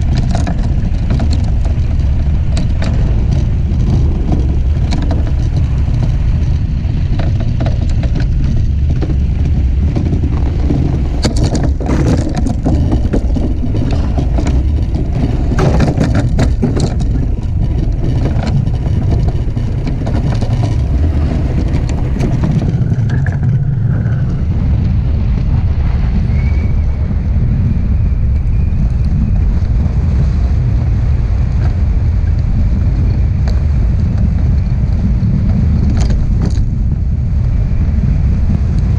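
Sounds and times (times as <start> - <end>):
crackling and clicking on ice: 0.0 - 25.5, 31.6 - 37.6
runners rumbling over ice: 0.0 - 38.9
wind on microphone: 0.0 - 38.9.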